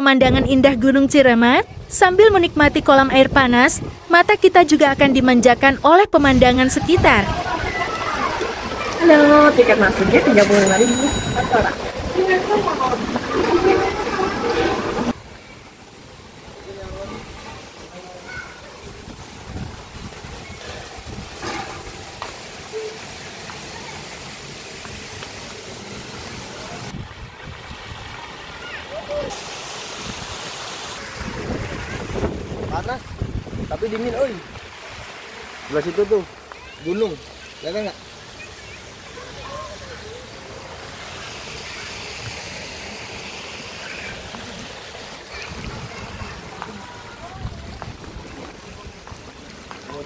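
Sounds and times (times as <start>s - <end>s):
pool-side ambient hiss: 0.0s - 50.0s.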